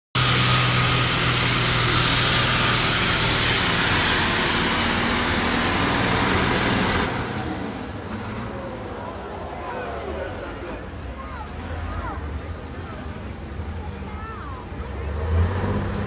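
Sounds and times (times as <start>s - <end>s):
diesel engine roaring under load: 0.2s - 16.0s.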